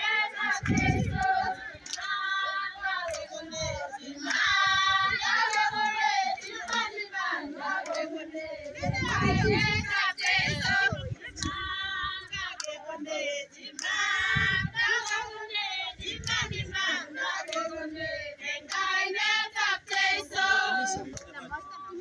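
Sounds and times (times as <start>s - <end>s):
men and women singing together: 0.0s - 22.0s.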